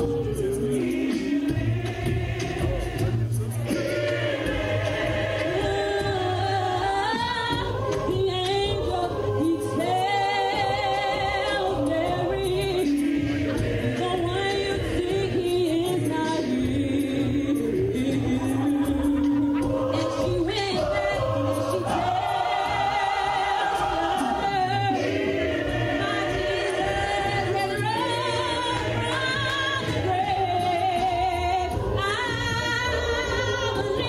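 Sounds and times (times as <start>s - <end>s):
gospel choir singing a cappella: 0.0s - 34.0s.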